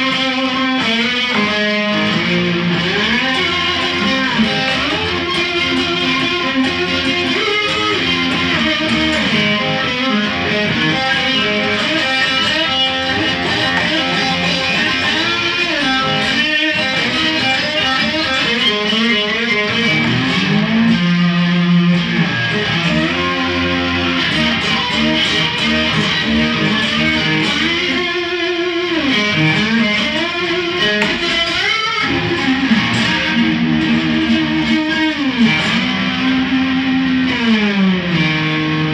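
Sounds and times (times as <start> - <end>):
electric guitar with sliding notes: 0.0 - 38.9.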